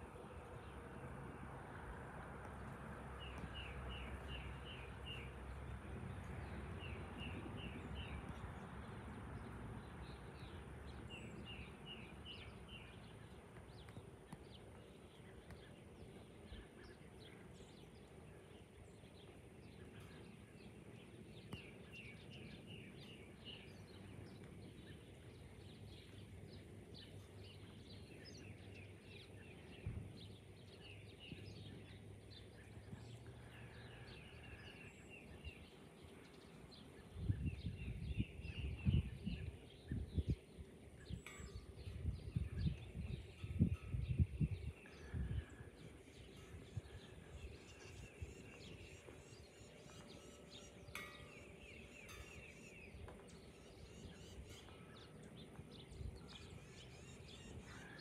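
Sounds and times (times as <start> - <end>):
faint jet rumble overhead: 0.0 - 58.0
bird chirping: 9.9 - 58.0.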